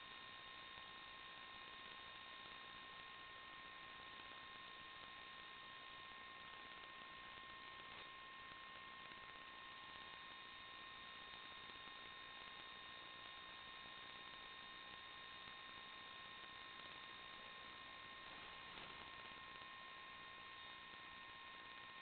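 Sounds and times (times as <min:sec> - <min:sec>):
faint electrical hiss: 0:00.0 - 0:22.0
high whine tones: 0:00.8 - 0:22.0.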